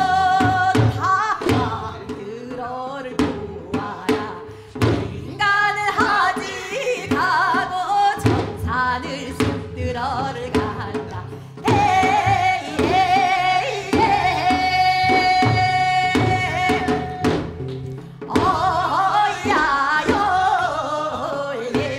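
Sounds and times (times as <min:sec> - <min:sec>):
drum strokes: 0:00.0 - 0:21.9
woman singing folk song: 0:00.0 - 0:21.9.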